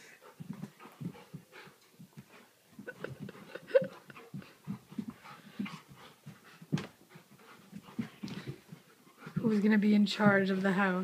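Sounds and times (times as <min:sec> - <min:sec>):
dogs panting: 0:00.0 - 0:11.0
paws shuffling on rug: 0:00.2 - 0:11.0.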